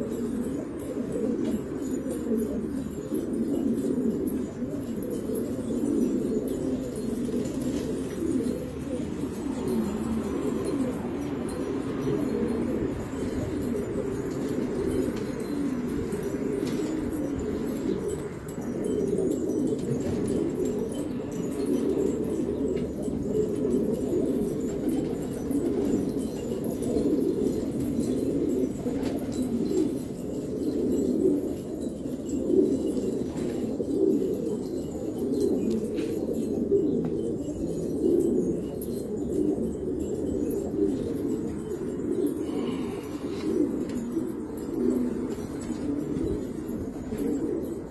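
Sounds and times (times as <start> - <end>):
pigeons cooing: 0.0 - 47.9.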